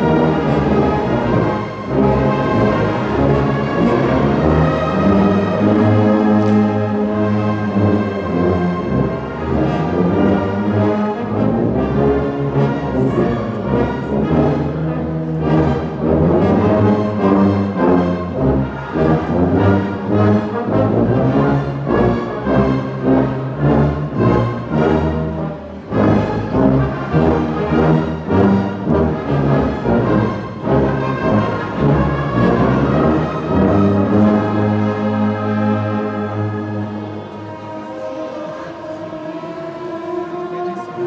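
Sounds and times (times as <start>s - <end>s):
brass orchestra playing a hymn: 0.0s - 41.0s.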